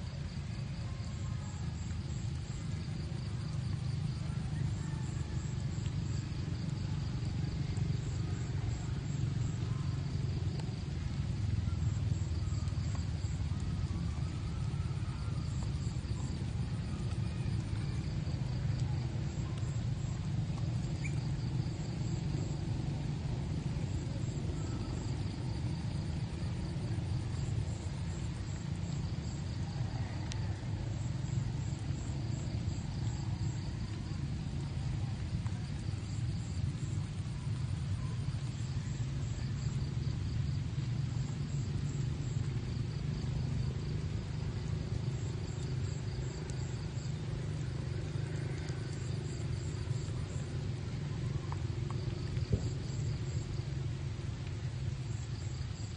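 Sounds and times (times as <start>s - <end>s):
insects chirping: 0.0s - 55.9s
steady low rumble: 0.0s - 55.9s.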